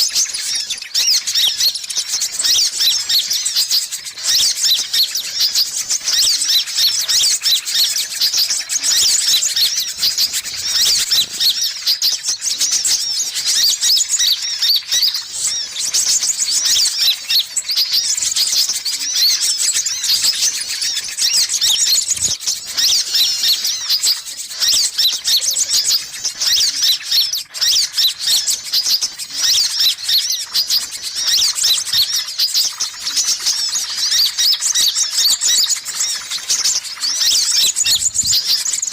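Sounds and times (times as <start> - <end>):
sunbirds chirping: 0.0 - 38.9.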